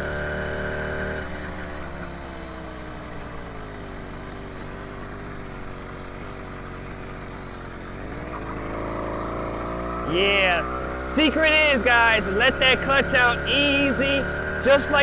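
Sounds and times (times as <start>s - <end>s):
small bicycle engine running: 0.9s - 15.0s.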